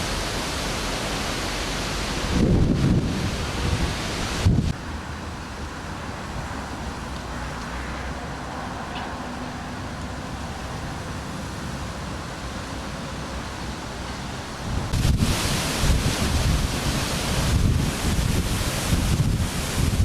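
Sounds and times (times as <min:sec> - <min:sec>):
rain hissing: 0:00.0 - 0:08.6, 0:09.7 - 0:20.0
wind: 0:00.0 - 0:20.0.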